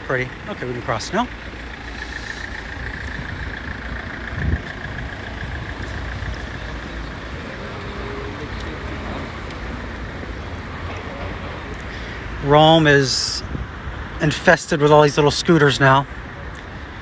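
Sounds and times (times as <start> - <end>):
traffic on wet street: 0.0 - 17.0.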